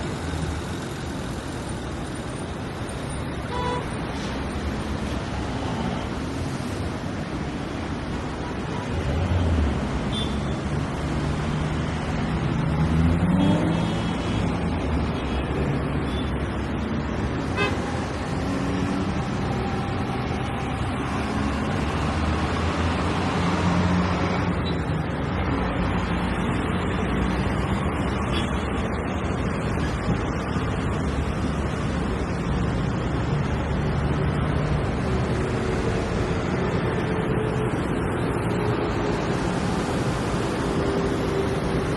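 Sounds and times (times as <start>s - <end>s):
road traffic engines and tyres: 0.0s - 41.9s.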